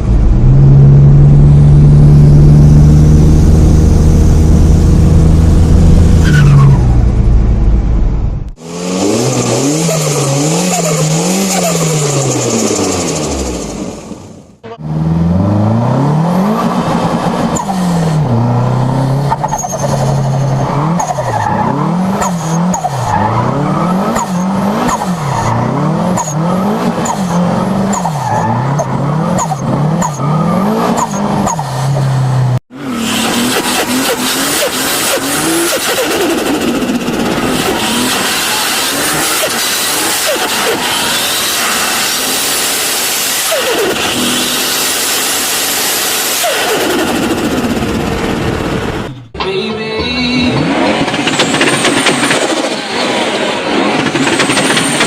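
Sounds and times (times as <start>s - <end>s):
car engine running hard: 0.0s - 49.4s
turbocharged car engine revving: 0.0s - 49.4s
tyres skidding: 0.0s - 55.0s.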